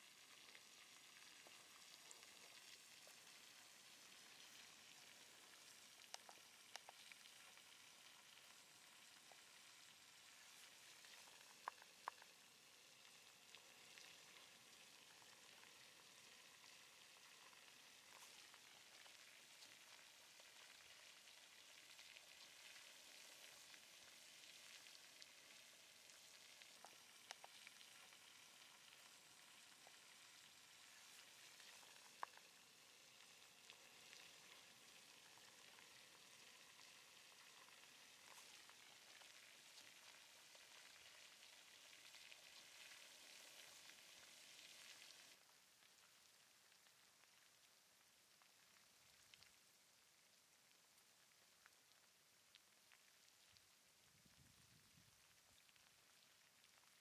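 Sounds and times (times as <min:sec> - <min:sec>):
lava crackling sizzle: 0:00.0 - 0:57.0.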